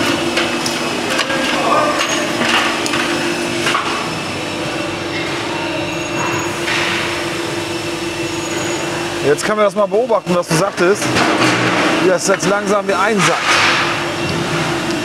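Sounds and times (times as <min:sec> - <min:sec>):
steady machinery hum: 0:00.0 - 0:15.0.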